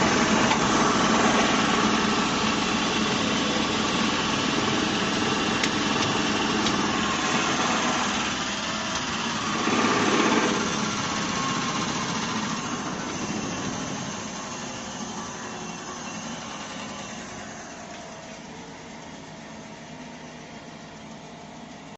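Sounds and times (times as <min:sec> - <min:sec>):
machine running: 0:00.0 - 0:20.5.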